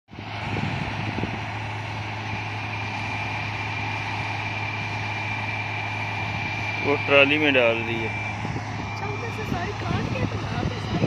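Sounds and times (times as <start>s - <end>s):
combine harvester drone: 0.1s - 11.0s
thin high whine: 0.2s - 11.0s.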